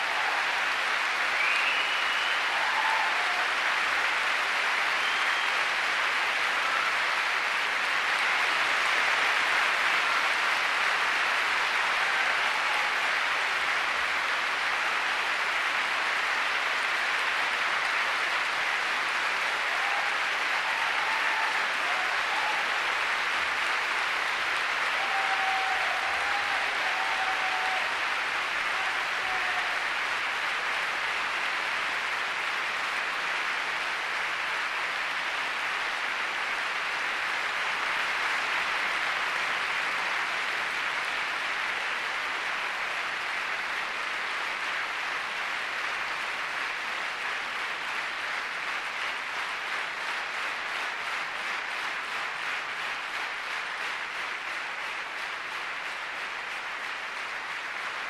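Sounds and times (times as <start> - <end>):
audience applauding: 0.0 - 58.0
rhythmic clapping: 0.0 - 58.0.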